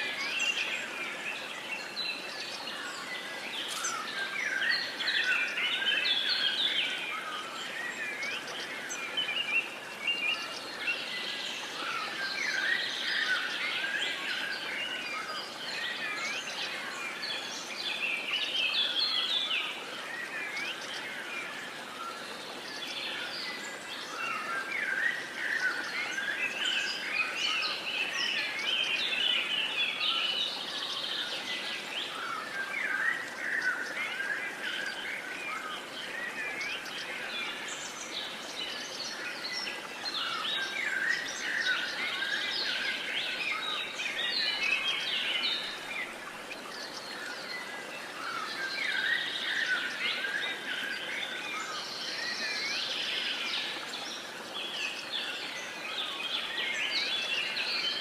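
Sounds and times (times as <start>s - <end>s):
faint steady hiss: 0.0s - 58.0s
songbirds singing and chirping: 0.0s - 58.0s.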